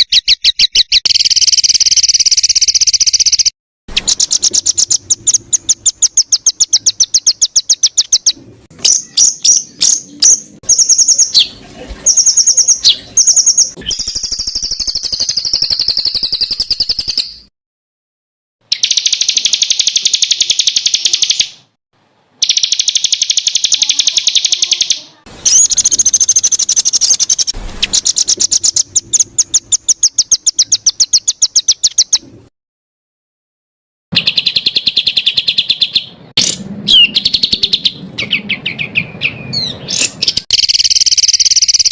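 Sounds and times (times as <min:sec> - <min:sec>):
songbird singing rapid high notes: 0:00.0 - 0:17.4, 0:18.6 - 0:21.6, 0:22.4 - 0:32.2, 0:34.2 - 0:41.9.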